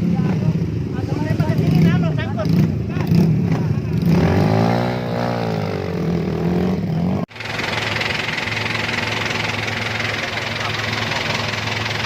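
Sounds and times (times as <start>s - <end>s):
steady engine sound: 0.0s - 12.0s
vehicle engine revving: 0.0s - 12.0s.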